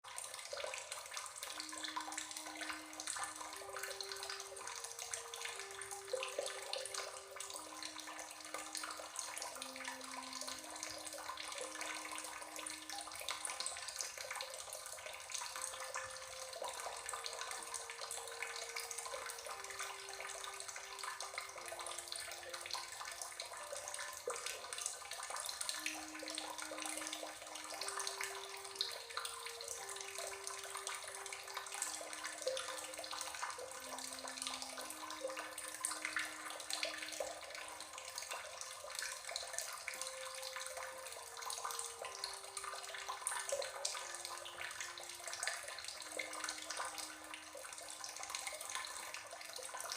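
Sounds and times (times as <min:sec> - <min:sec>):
slow soft melody: 0:00.0 - 0:49.9.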